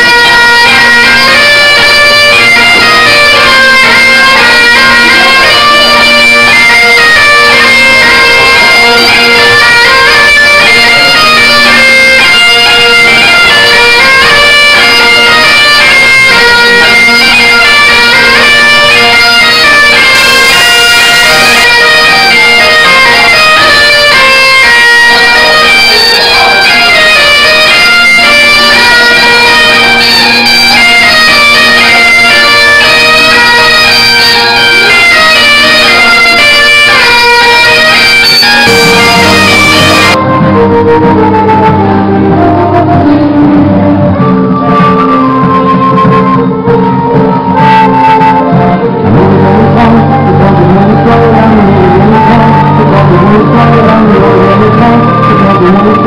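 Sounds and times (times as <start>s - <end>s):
folk dance tune over drone: 0.0s - 56.0s.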